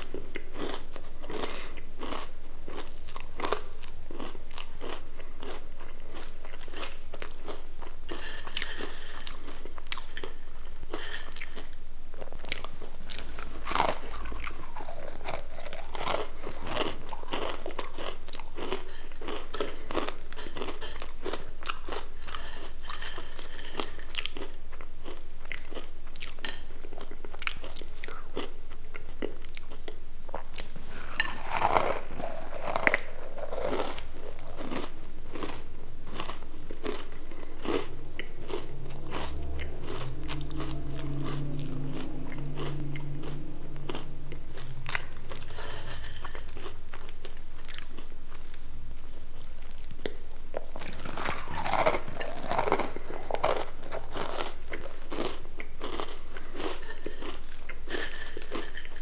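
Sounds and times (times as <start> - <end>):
crunching crisp snacks: 0.0 - 28.5, 29.2 - 44.1, 50.7 - 59.0.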